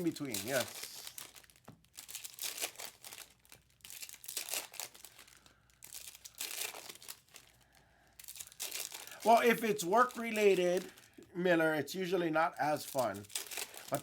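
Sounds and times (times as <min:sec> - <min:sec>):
foil wrappers crinkling and tearing: 0:00.0 - 0:14.0.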